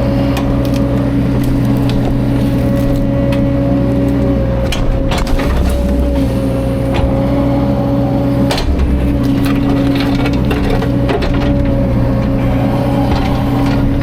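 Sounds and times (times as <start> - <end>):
excavator diesel engine running: 0.0 - 14.0
wood crushing knocks and cracks: 0.3 - 7.2, 8.5 - 14.0.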